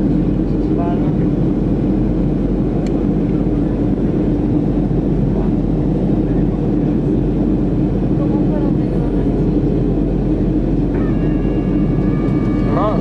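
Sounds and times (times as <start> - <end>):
airplane cabin drone: 0.0 - 13.0
constant low hum: 0.0 - 13.0.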